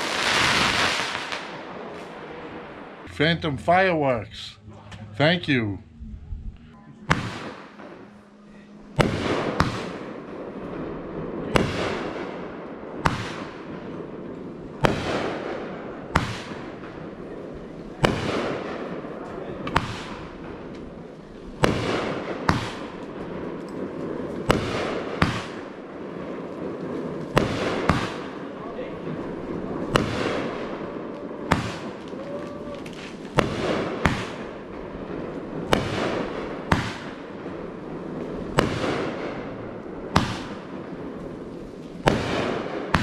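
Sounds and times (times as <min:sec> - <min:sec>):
firework bangs: 0:00.0 - 0:03.8, 0:07.0 - 0:43.0.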